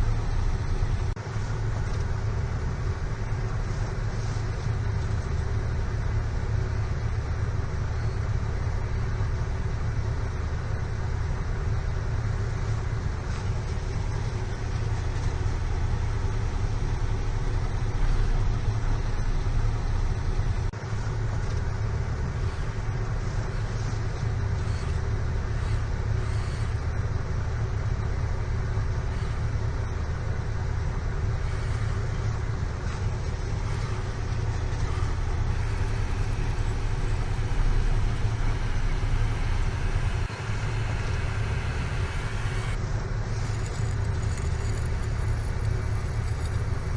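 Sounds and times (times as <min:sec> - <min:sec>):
vehicle motor droning: 0:00.0 - 0:46.9.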